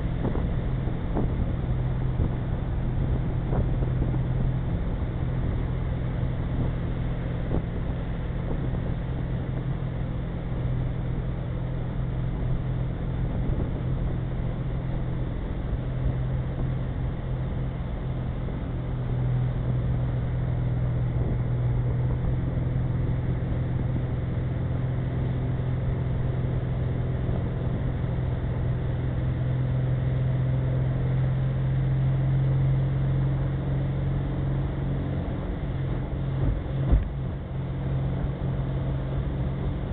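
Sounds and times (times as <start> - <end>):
boat engine humming: 0.0 - 39.9
water rushing from wake: 0.0 - 39.9.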